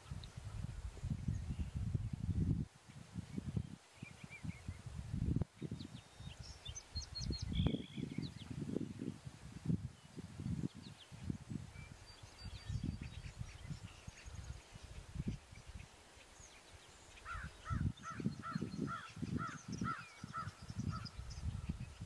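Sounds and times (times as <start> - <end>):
faint birdsong: 2.9 - 4.9, 5.6 - 9.1, 9.9 - 22.0.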